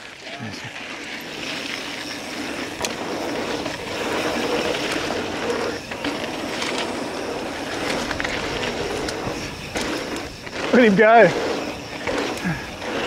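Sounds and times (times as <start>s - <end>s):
bike clicks and rattles: 0.0s - 13.0s
bike tyres on dirt: 0.0s - 13.0s.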